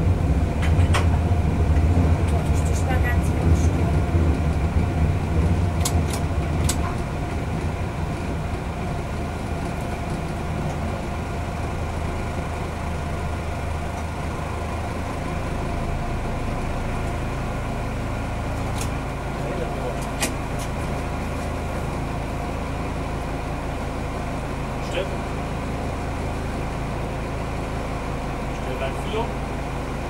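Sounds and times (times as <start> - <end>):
diesel railcar engine humming: 0.0 - 30.0.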